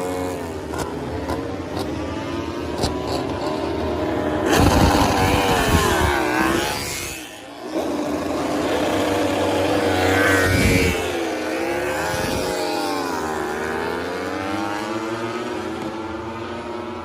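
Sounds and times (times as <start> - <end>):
racing motorcycle engines revving: 0.0 - 17.0.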